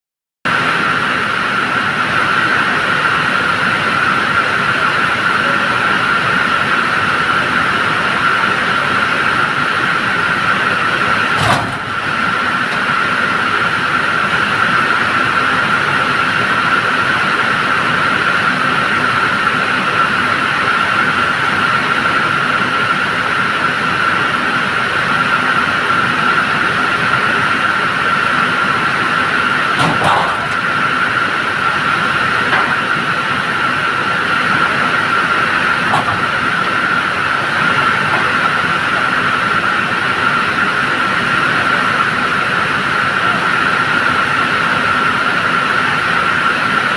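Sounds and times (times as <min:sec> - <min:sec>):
truck engine running: 0:00.5 - 0:46.9.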